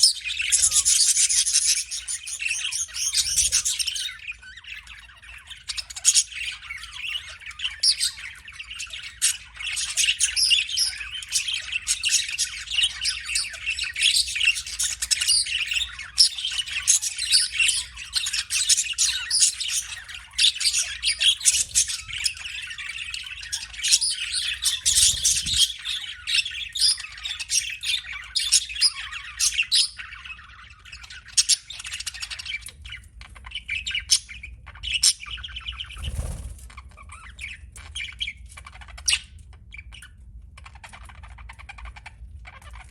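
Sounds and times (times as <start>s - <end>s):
budgerigar chirping: 0.0s - 36.4s.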